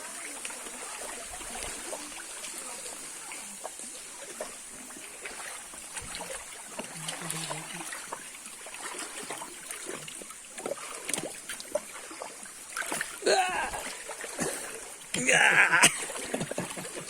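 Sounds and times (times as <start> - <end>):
footsteps wading through water: 0.0 - 17.0.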